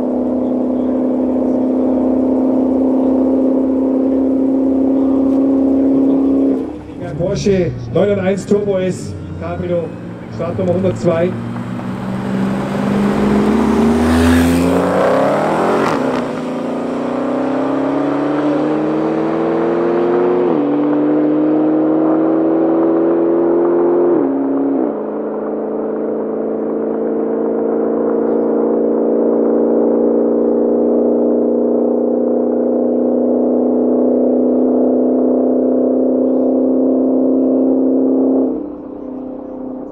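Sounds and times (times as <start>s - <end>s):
car engine at full throttle: 0.0s - 39.9s.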